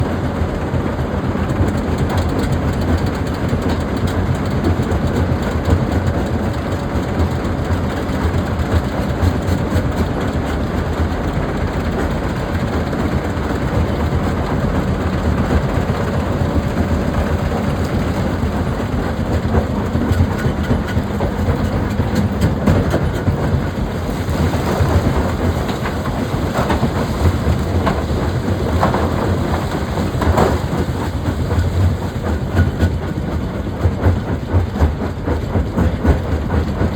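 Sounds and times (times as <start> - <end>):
heavy machinery rumbling: 0.0 - 36.9.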